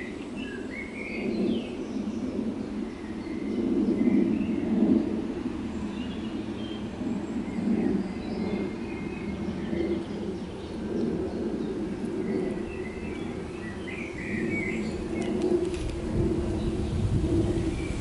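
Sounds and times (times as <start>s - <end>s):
birds chirping: 0.0s - 18.0s
low outdoor rumble: 0.0s - 18.0s.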